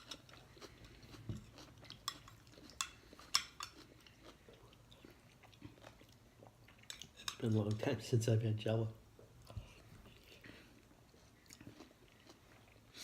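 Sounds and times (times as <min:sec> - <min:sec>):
person chewing: 0:00.0 - 0:07.4, 0:09.4 - 0:13.0.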